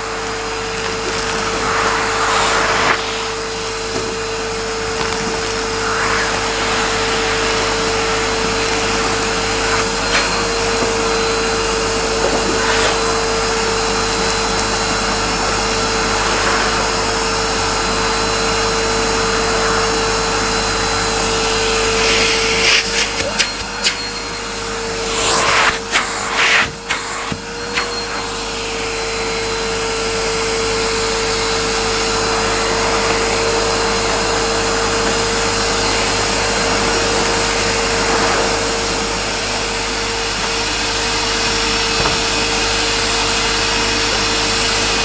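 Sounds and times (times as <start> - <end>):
hose drawn over carpet: 0.0 - 45.0
vacuum cleaner running: 0.0 - 45.0.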